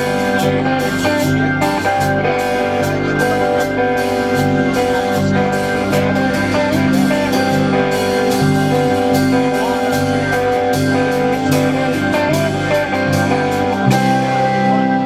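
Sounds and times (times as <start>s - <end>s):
bass line: 0.0s - 15.0s
guitars: 0.0s - 15.0s
steady drum beat: 0.0s - 15.0s.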